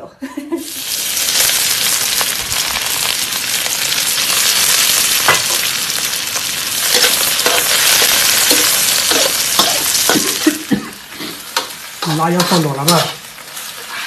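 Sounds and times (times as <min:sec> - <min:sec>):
vegetables sizzling in a pan: 0:00.6 - 0:14.0.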